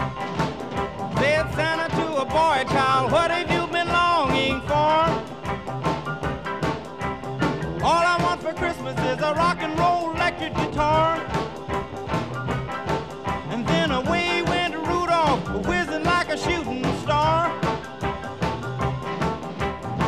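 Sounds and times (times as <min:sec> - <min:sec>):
upbeat background music: 0:00.0 - 0:20.0.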